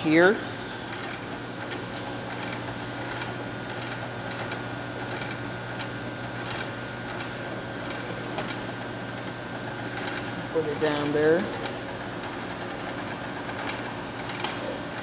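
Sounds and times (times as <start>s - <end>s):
lab equipment humming: 0.0s - 15.0s.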